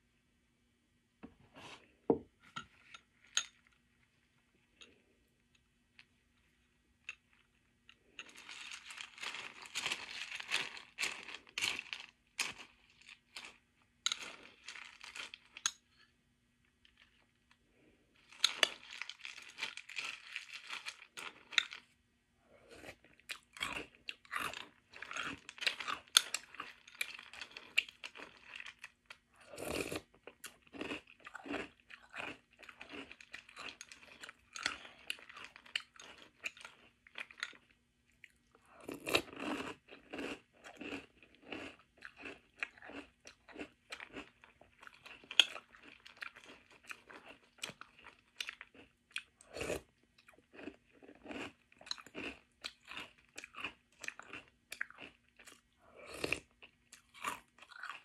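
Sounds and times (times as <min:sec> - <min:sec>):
person chewing crunchy cereal: 0:02.7 - 0:58.0.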